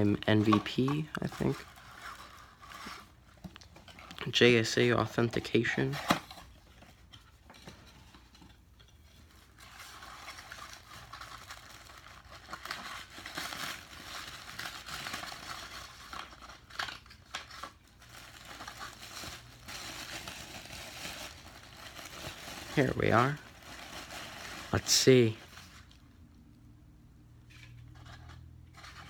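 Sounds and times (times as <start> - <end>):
plastic packaging crinkling: 0.0 - 26.1.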